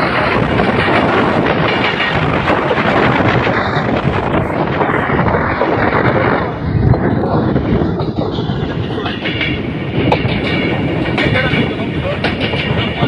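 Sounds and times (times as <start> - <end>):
rushing air: 0.0 - 13.0
train wheels rumbling on rail: 0.0 - 13.0.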